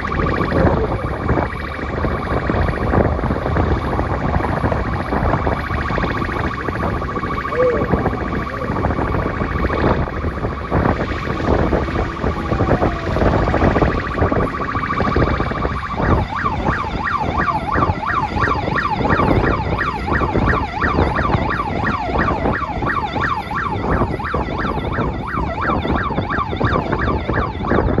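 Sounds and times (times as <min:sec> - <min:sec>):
car road rumble: 0:00.0 - 0:28.0
electronic vehicle siren: 0:00.0 - 0:28.0.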